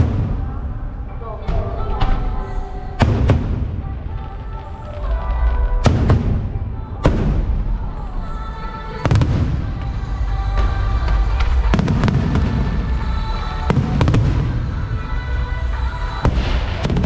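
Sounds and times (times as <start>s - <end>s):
fireworks bangs: 0.0s - 17.0s
music playing: 0.0s - 17.0s.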